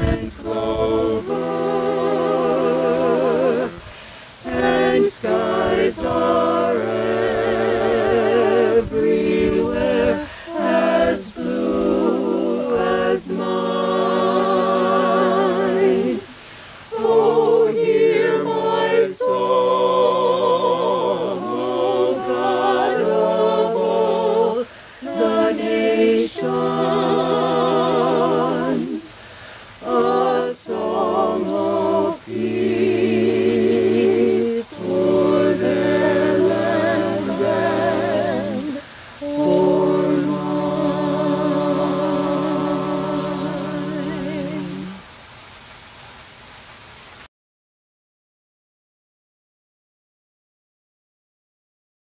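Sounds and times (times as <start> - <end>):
vocal ensemble singing in harmony: 0.0 - 45.2.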